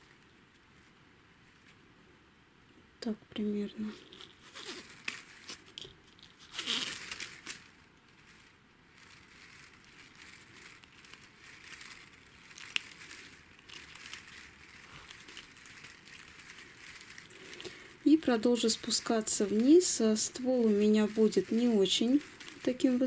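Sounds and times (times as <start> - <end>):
paper tape crinkling and rustling: 0.0 - 1.8, 3.8 - 23.0.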